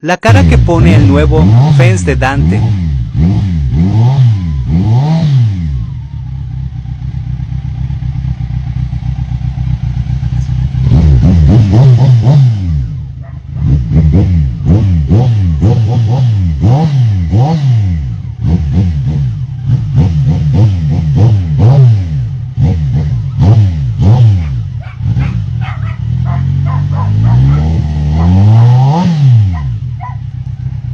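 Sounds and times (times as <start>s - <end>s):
motorcycle engine revving: 0.3s - 30.9s.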